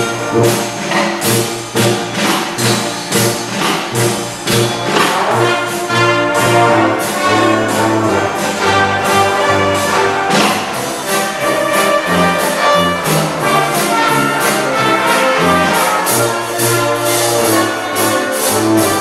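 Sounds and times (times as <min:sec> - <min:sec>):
small brass band playing: 0:00.0 - 0:19.0
tuba bass notes: 0:00.0 - 0:19.0.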